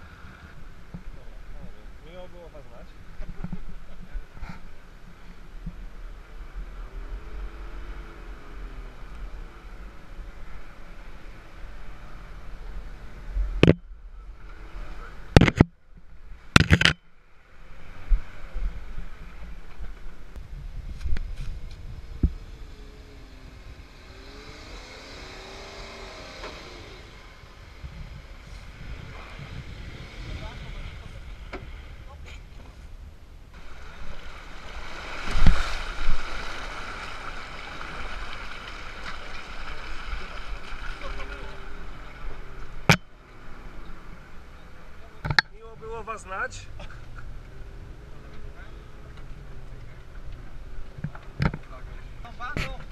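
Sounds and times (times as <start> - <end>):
engine and tyres rumbling: 0.0 - 52.9.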